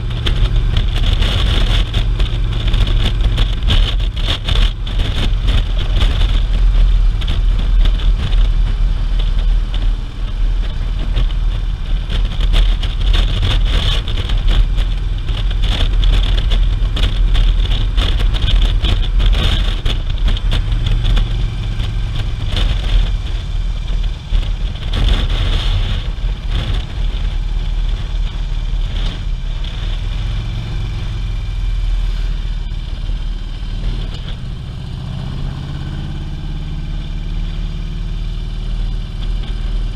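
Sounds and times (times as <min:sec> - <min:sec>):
wind buffeting microphone: 0:00.0 - 0:37.3
motorcycle engine running: 0:00.0 - 0:39.9.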